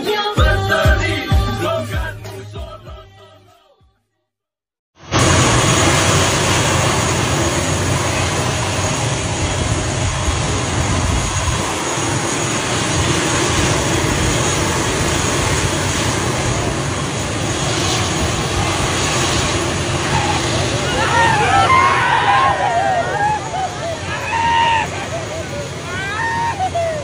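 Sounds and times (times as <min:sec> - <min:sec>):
turboprop engine running: 0:05.0 - 0:27.0.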